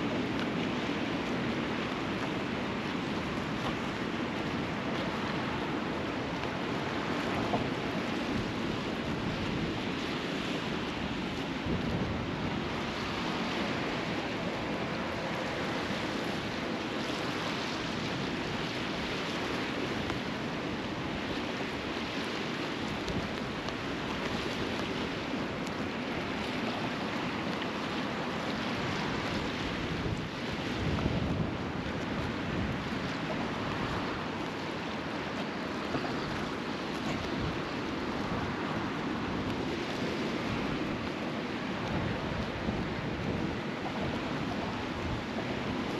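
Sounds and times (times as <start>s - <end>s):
sea surf rushing: 0.0s - 45.9s
wind: 0.0s - 45.9s.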